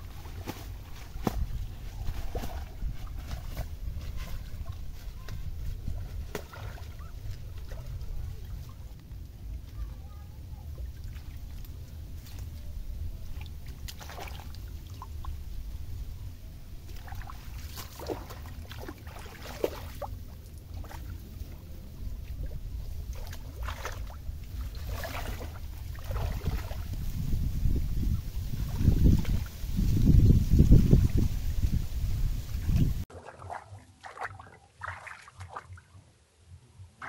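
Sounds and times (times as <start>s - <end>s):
water sloshing and splashing: 0.0s - 16.0s, 16.7s - 36.0s
steady low rumble: 0.0s - 33.1s.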